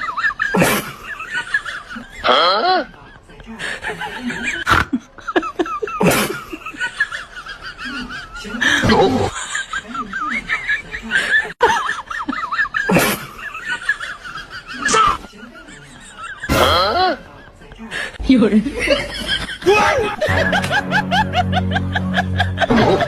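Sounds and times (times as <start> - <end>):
people laughing: 0.0 - 23.0.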